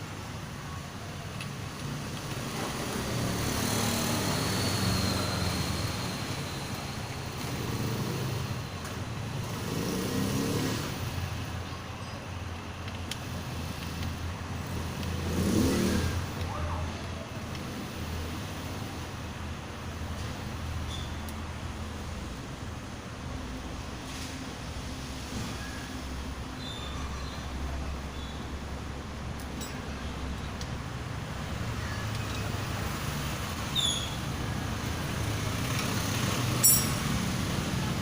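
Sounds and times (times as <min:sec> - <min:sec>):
vehicles passing by: 0:00.0 - 0:38.0.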